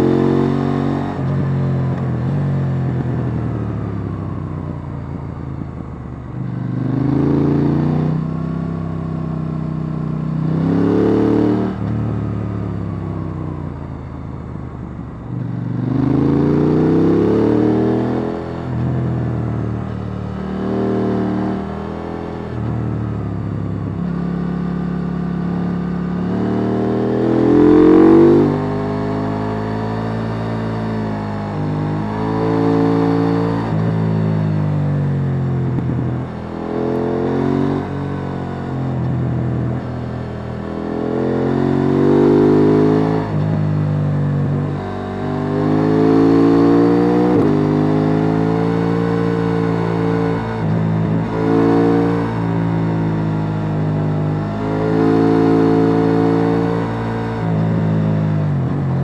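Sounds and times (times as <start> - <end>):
motorcycle engine revving: 0.0 - 14.0, 15.2 - 59.0.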